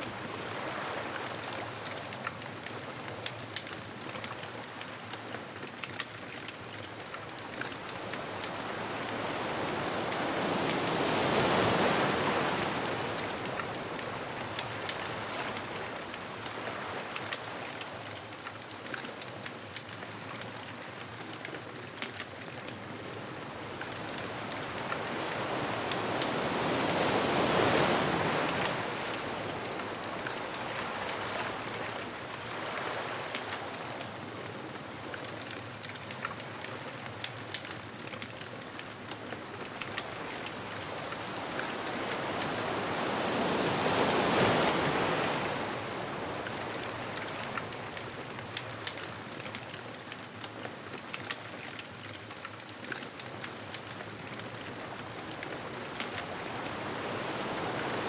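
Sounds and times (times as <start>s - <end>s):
crackling wood bonfire: 0.0s - 58.0s
ocean waves breaking on beach: 0.0s - 58.0s.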